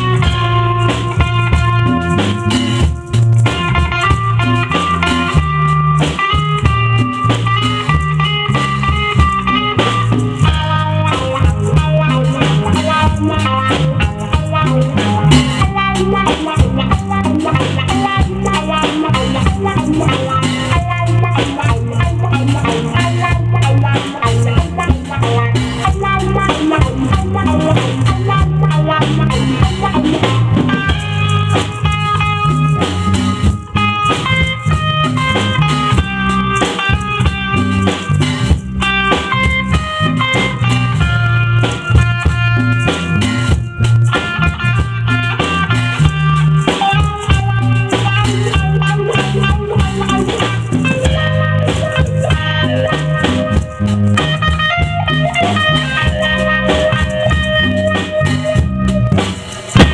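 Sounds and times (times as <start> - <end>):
congas: 0.0 - 59.9
drum kit: 0.0 - 59.9
electric bass line: 0.0 - 59.9
electric guitar melody: 0.0 - 59.9.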